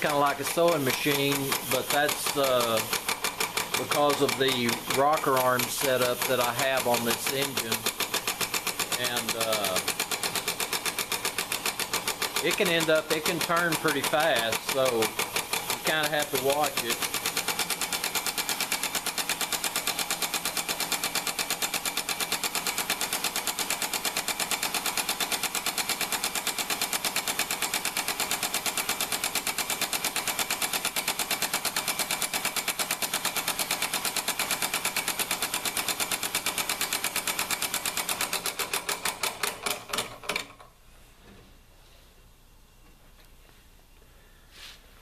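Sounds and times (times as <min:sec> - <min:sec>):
model steam engine clattering: 0:00.0 - 0:40.6.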